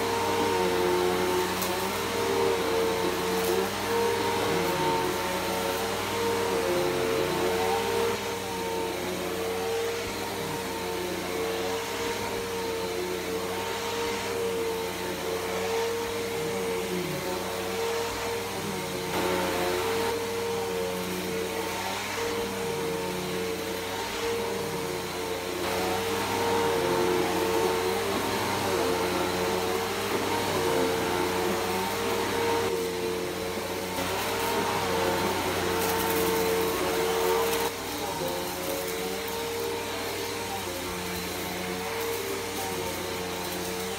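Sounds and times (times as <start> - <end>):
vacuum cleaner running on carpet: 0.0 - 43.9.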